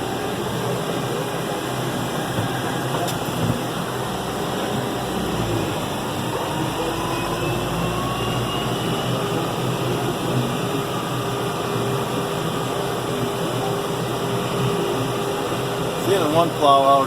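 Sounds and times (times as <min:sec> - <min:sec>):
cab fan blowing: 0:00.0 - 0:17.0
faint whine: 0:00.0 - 0:17.0.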